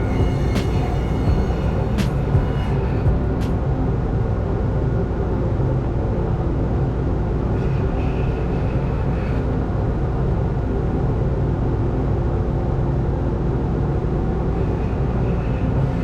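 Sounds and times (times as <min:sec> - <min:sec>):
machine rumbling and humming: 0:00.0 - 0:16.0.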